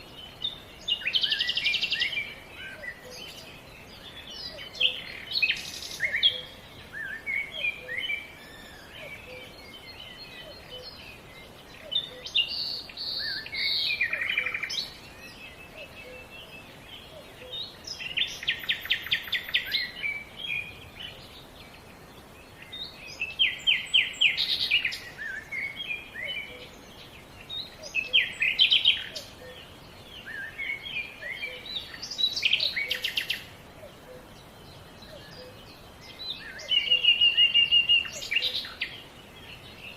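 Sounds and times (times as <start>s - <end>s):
outdoor background hiss: 0.0s - 39.9s
songbirds singing: 0.0s - 39.9s.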